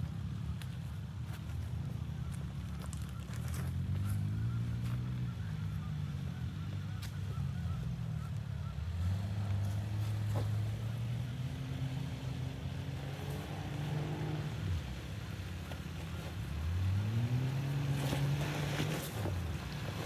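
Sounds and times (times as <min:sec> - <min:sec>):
truck engine revving: 0:01.9 - 0:20.0.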